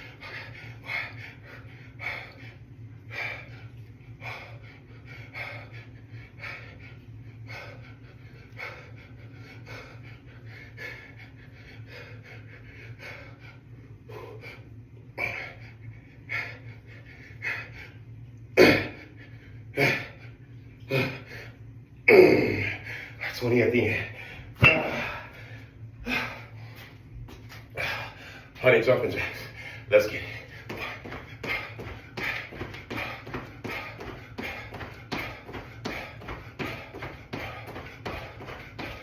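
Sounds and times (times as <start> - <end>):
man breathing hard: 0.0 - 21.6, 22.2 - 23.4, 24.0 - 39.0
steady low hum: 0.0 - 39.0.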